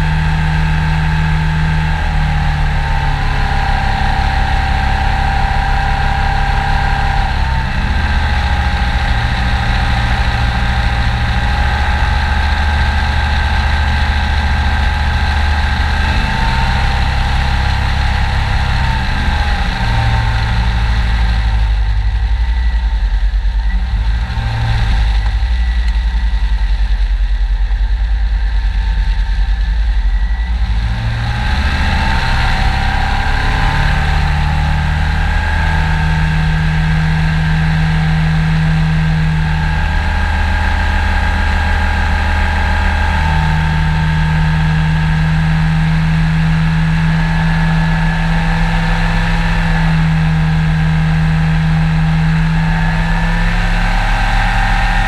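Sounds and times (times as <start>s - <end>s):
engine and propeller running: 0.0s - 55.0s.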